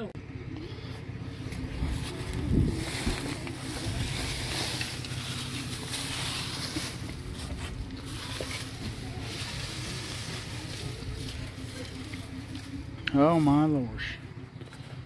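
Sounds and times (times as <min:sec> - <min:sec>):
engine running with hiss: 0:00.2 - 0:15.0.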